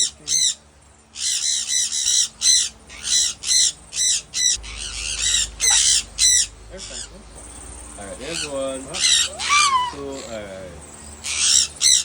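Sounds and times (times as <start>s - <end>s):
parrots squawking: 0.0s - 0.6s, 1.2s - 12.0s.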